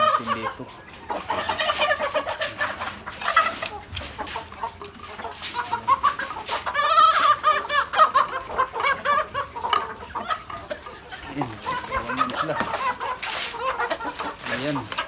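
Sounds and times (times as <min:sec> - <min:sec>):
chickens calling: 0:00.0 - 0:15.0.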